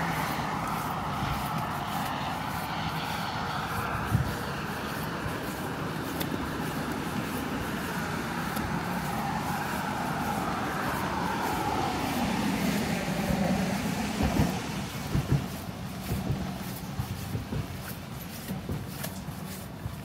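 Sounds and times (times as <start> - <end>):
car tyres hissing on wet road: 0.0 - 20.0
footsteps on wet pavement: 0.0 - 20.0.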